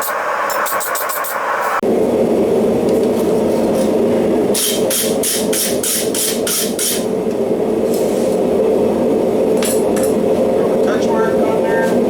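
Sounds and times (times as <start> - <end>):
forge burner roaring: 0.0 - 12.0.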